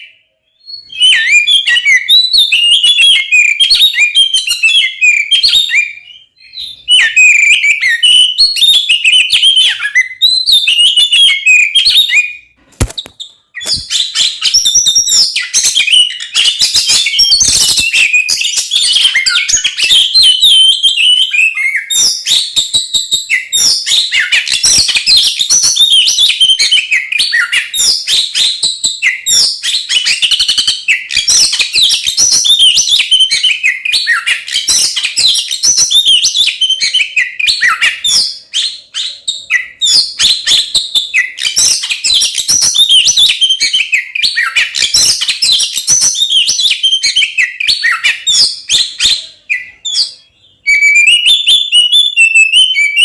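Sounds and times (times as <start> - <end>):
songbird whistling and chattering: 0.0 - 53.0.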